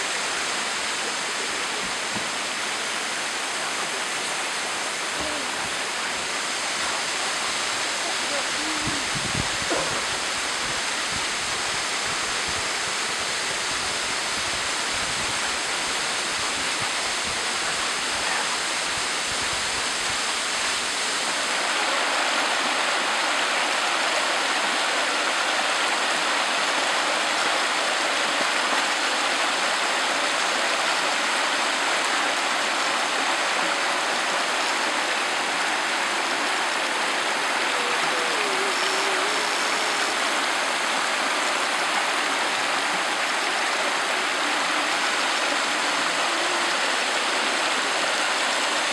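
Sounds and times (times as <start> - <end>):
stream rushing over rocks: 0.0 - 48.9
water splashing in cascade: 0.0 - 48.9.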